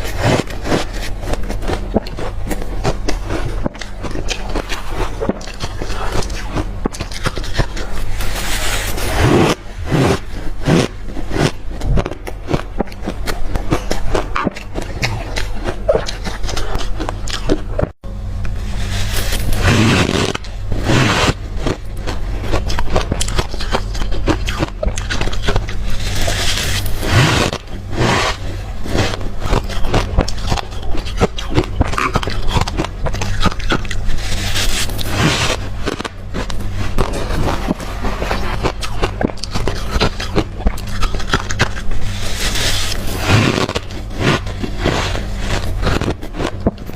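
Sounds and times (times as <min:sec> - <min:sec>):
crushed ice being chewed: 0:00.0 - 0:46.9.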